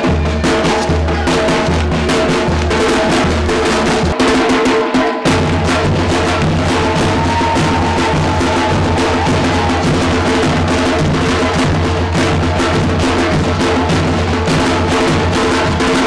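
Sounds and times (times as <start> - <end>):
bass drums beating: 0.0 - 4.7, 5.3 - 16.0
snare drum beating: 0.0 - 16.0.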